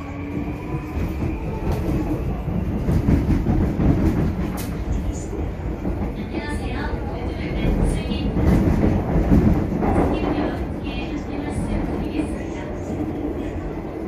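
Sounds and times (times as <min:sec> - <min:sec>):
train wheels rumbling on track: 0:00.0 - 0:14.0
rail clicks: 0:00.2 - 0:14.0.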